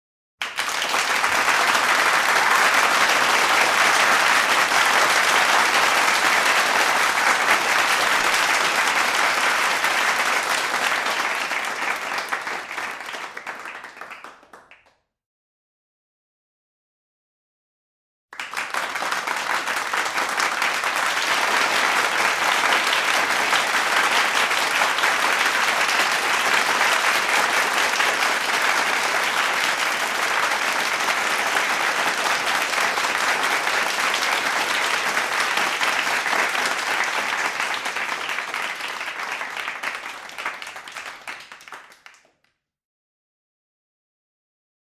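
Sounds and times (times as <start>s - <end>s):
crowd applauding: 0.4s - 14.9s, 18.4s - 42.4s.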